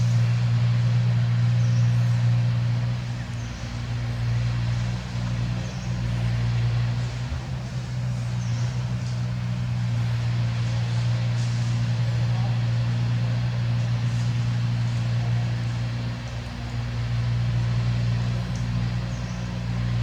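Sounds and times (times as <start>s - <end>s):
low motor drone: 0.0s - 20.0s.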